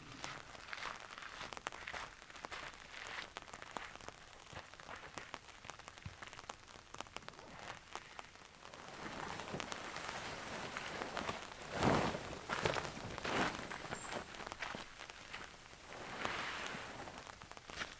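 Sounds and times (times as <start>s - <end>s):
light rain falling: 0.1s - 17.9s.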